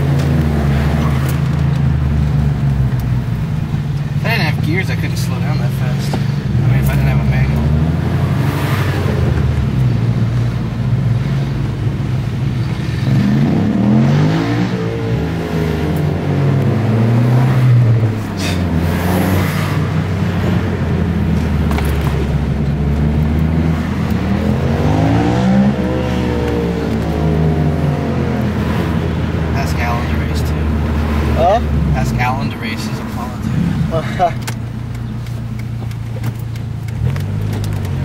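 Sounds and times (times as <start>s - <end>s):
engine revving: 0.0s - 3.4s, 4.2s - 38.0s
car engine drone: 0.0s - 38.0s.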